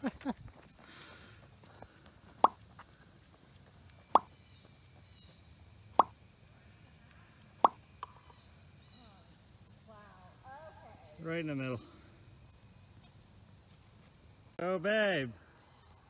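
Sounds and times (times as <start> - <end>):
crickets droning: 0.0 - 16.0.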